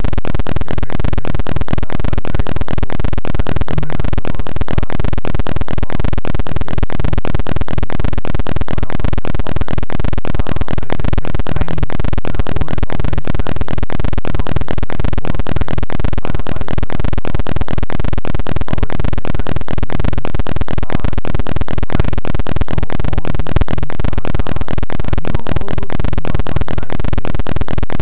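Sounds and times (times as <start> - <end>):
harsh pulsing buzzing noise: 0.0 - 28.0.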